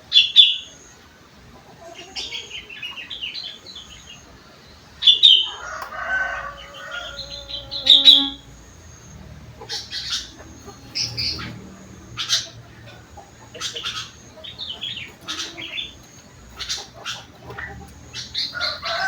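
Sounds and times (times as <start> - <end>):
bulbul chirping song: 2.2 - 19.0.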